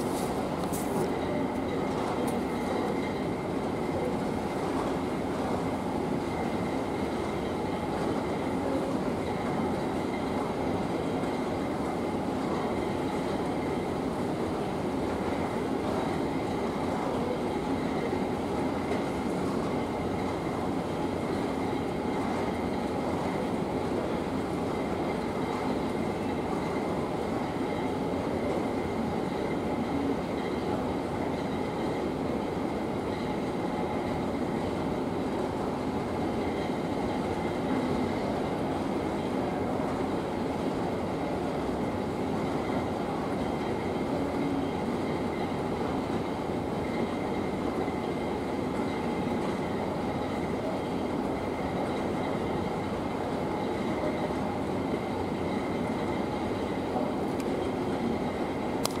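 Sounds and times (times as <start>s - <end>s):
train car rumble: 0.0s - 58.8s.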